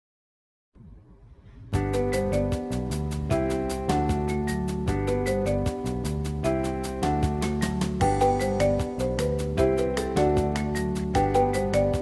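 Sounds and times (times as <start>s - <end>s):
bright pop music: 1.8s - 12.0s.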